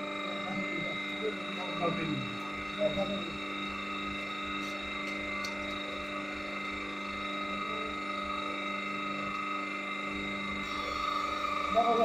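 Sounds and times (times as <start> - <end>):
pressing machine humming: 0.0 - 12.0.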